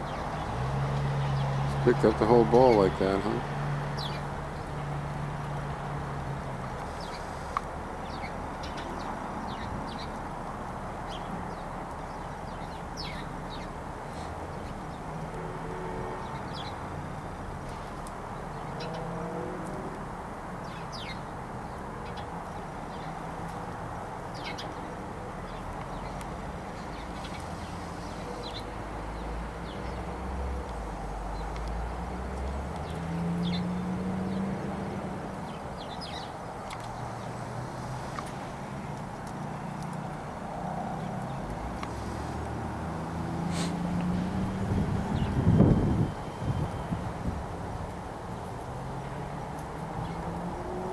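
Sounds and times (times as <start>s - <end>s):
distant traffic hum: 0.0s - 50.9s
low rumble of passing traffic: 0.0s - 50.9s.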